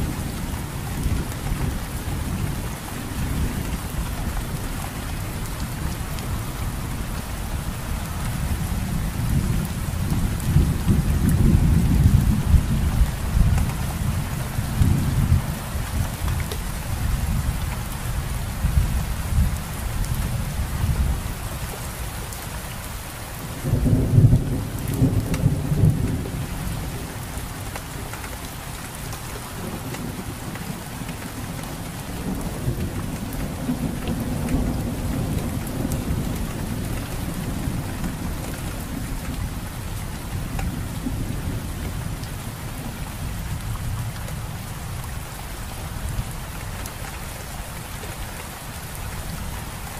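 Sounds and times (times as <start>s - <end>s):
steady rain hissing: 0.0s - 49.9s.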